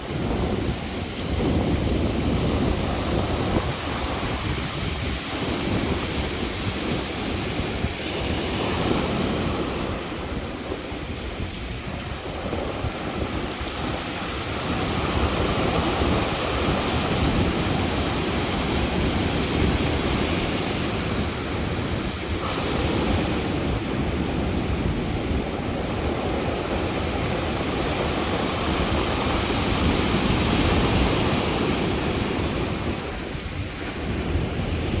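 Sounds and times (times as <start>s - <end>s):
surf waves roaring: 0.0s - 35.0s
wind on microphone: 0.0s - 35.0s.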